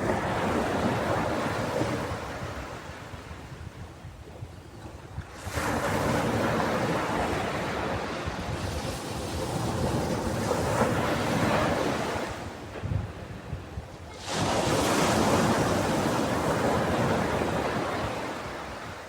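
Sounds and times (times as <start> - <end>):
ocean waves breaking on beach: 0.0 - 19.0.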